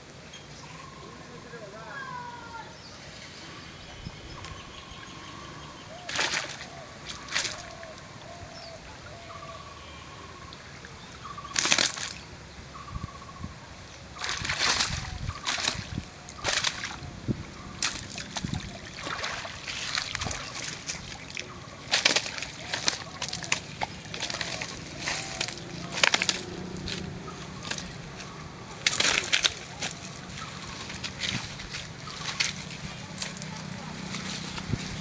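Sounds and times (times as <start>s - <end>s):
pond water sloshing and splashing: 4.4s - 12.7s, 13.7s - 35.0s.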